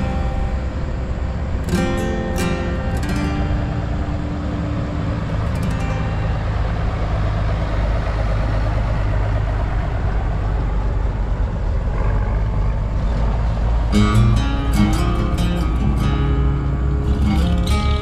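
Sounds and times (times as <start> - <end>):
tractor engines driving past: 0.0 - 18.0.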